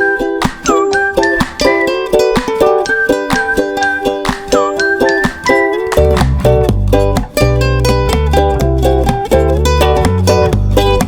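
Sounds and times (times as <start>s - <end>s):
upbeat strummed ukulele: 0.0s - 11.0s.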